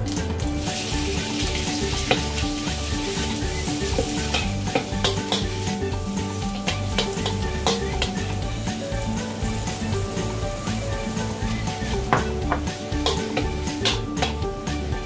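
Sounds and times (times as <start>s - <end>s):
minced meat sizzling in wok: 0.0s - 15.0s
metal spatula scraping pan: 0.7s - 14.4s.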